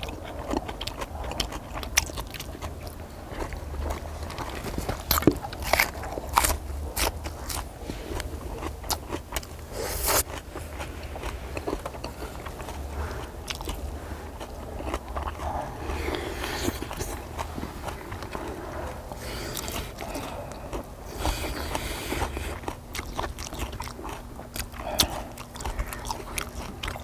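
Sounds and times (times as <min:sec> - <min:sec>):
person biting and chewing: 0:00.0 - 0:27.0.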